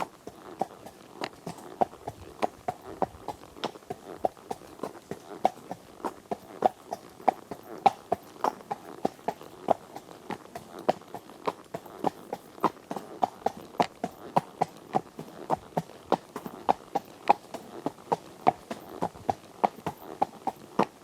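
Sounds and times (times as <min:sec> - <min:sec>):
horse hoofbeats: 0:00.0 - 0:21.0.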